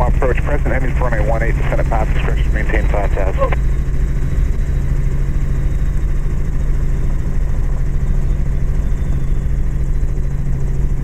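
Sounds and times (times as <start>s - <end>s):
helicopter engine and rotors droning: 0.0s - 11.0s.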